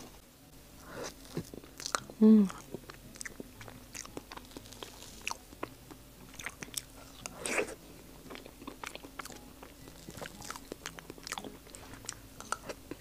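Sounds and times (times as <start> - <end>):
soft chewing with lip smacks: 0.9 - 13.0.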